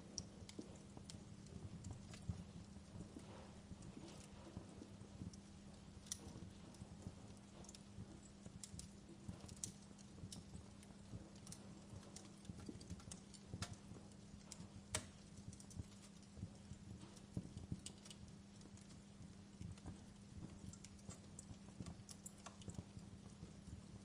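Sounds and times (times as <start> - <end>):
faint low hum: 0.0 - 24.0
wood fire crackling: 0.0 - 24.0.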